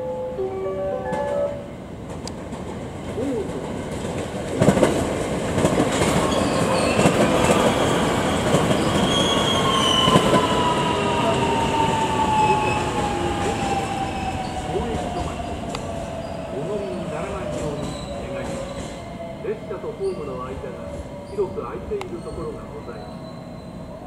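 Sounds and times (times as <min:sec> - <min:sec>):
train rumble: 0:01.0 - 0:24.0.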